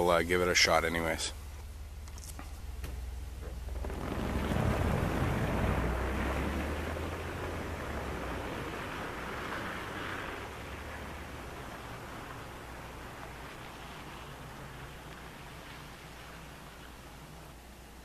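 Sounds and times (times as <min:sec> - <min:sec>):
low engine hum: 0:00.0 - 0:18.0
pickup truck pulling away: 0:01.8 - 0:18.0.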